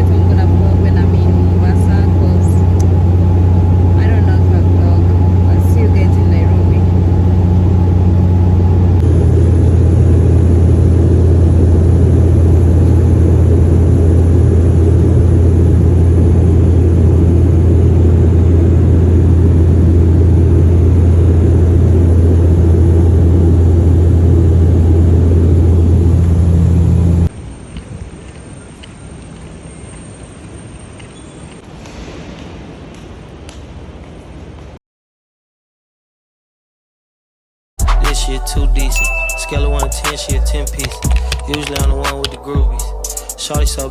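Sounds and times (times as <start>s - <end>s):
vehicle engine droning: 0.0s - 30.9s, 38.0s - 43.9s.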